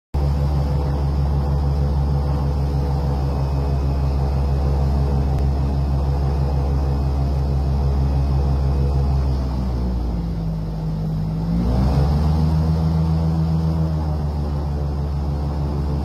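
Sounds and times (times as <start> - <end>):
airboat engine and propeller droning: 0.2 - 16.0.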